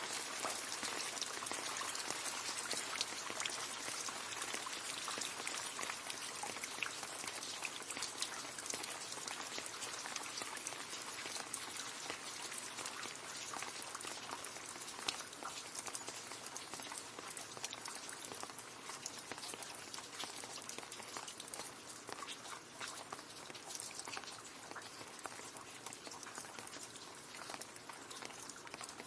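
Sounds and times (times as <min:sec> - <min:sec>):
rain splashing into a puddle: 0:00.0 - 0:29.0.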